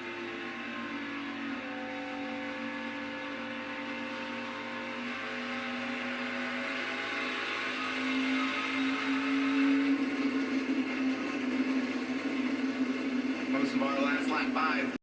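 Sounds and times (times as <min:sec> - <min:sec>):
race trucks engine drone: 0:00.0 - 0:15.0.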